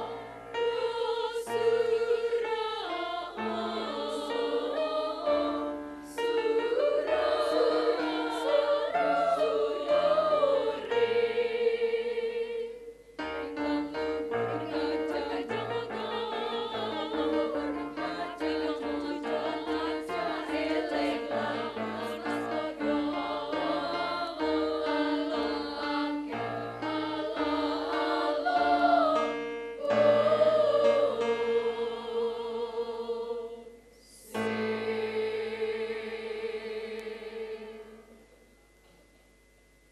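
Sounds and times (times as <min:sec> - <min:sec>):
women's choir singing: 0:00.0 - 0:38.3.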